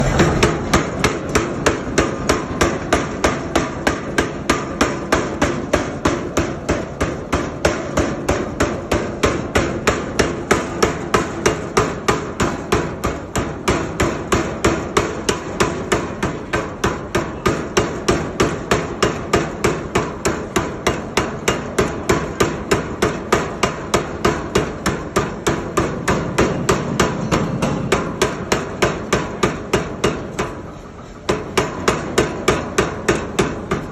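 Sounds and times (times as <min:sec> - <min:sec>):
power hammer striking: 0:00.0 - 0:33.9.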